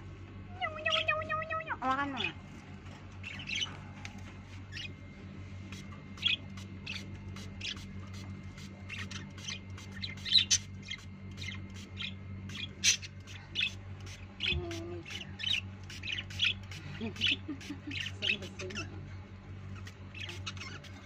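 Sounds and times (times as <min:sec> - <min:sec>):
steady low hum: 0:00.0 - 0:21.0
parakeets squawking: 0:00.5 - 0:02.4, 0:03.2 - 0:03.8, 0:04.7 - 0:05.0, 0:05.7 - 0:18.9, 0:19.7 - 0:21.0.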